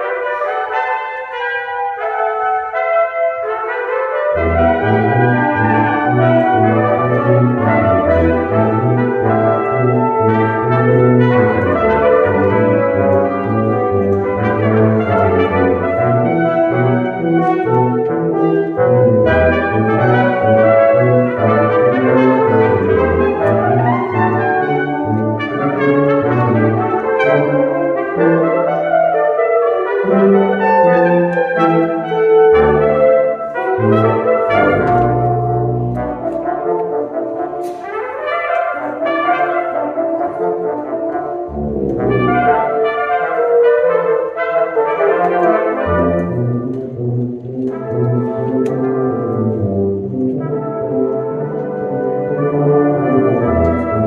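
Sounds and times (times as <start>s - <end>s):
brass quintet playing: 0.0s - 54.0s
tuba bass line: 0.0s - 54.0s.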